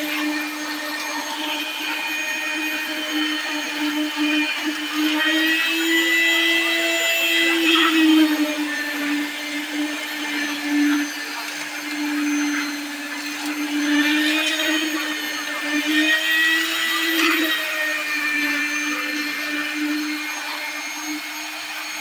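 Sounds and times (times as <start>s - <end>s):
small motor humming: 0.0s - 22.0s.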